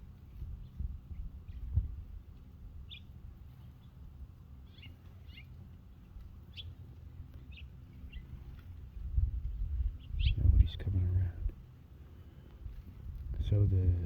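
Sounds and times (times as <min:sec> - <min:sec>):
low steady rumble: 0:00.0 - 0:14.0
songbirds chirping: 0:00.0 - 0:14.0.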